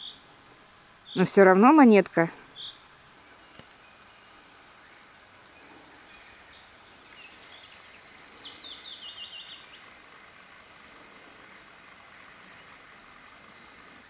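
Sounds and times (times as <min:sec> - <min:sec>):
faint outdoor background hiss: 0:00.0 - 0:14.0
songbird singing: 0:00.0 - 0:14.0.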